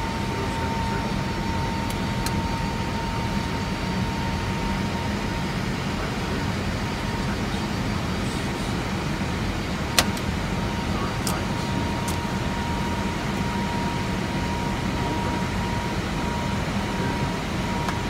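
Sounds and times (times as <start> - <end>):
rumble of airflow and engines: 0.0 - 18.0
thin steady whine: 0.0 - 18.0.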